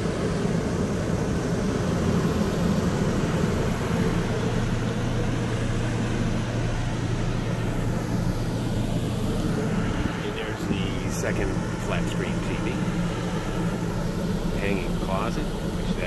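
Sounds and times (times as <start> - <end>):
air conditioners running: 0.0 - 16.0
generator droning: 0.0 - 16.0.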